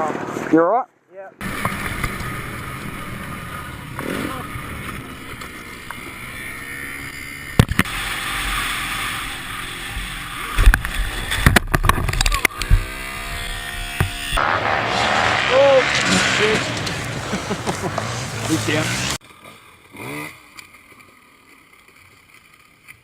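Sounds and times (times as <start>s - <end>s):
dirt bike engine running: 1.4s - 22.8s.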